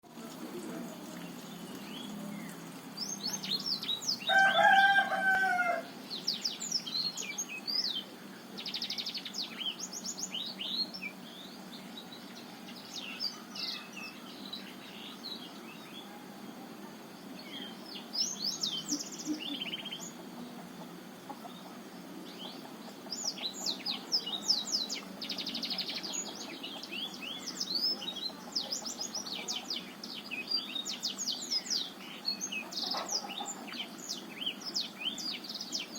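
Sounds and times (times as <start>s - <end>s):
canary twittering song: 1.3s - 16.2s, 17.3s - 20.3s, 21.2s - 35.9s.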